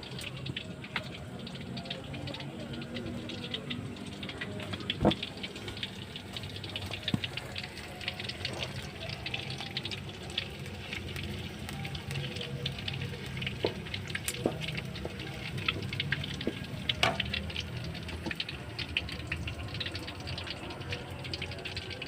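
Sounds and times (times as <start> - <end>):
food frying in hot oil: 0.0 - 22.0.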